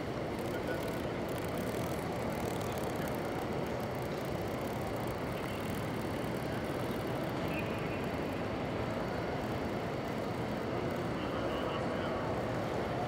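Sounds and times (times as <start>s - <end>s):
train station concourse rumble: 0.0s - 13.0s.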